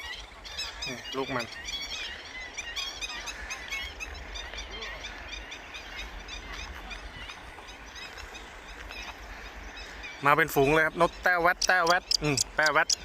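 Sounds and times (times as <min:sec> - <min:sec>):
lapwings calling: 0:00.0 - 0:13.0.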